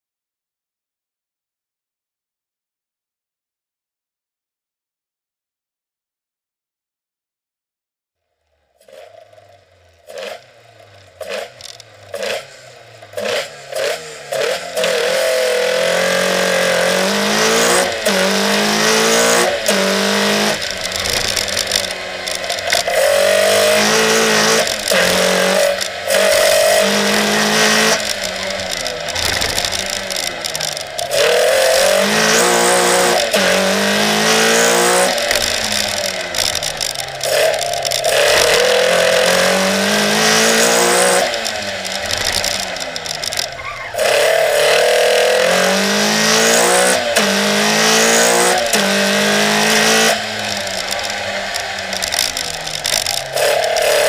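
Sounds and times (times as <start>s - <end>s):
engine accelerating through gears: 8.4s - 54.0s
rally car engine revving: 8.4s - 54.0s.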